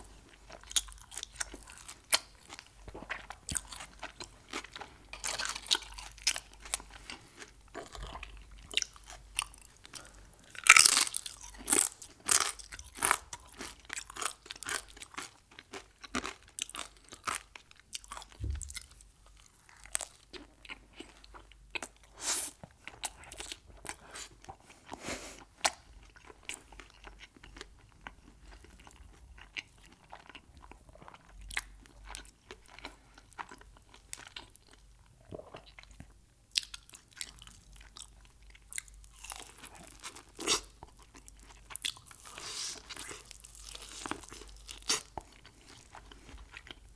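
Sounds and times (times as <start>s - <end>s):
crunchy food chewing: 0.3s - 46.9s.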